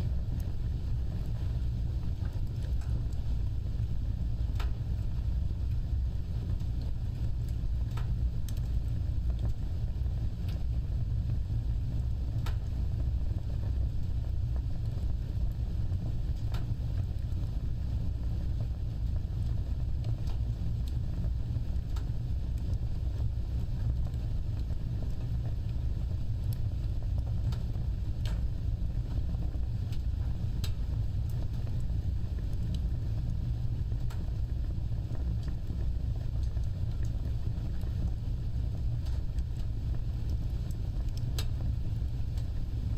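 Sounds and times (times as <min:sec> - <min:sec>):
fire crackles and pops: 0:00.0 - 0:42.9
low roar of flames: 0:00.0 - 0:42.9.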